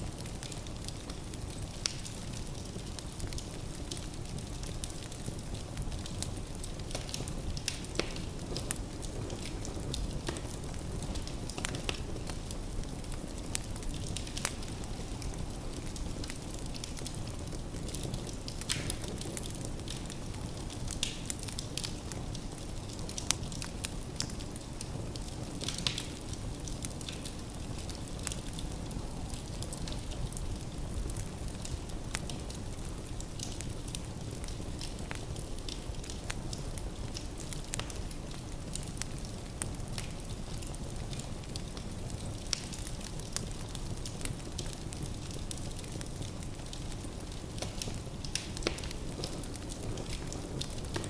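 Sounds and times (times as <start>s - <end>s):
fire rumbling in fireplace: 0.0s - 51.0s
wood crackling and popping: 0.0s - 51.0s.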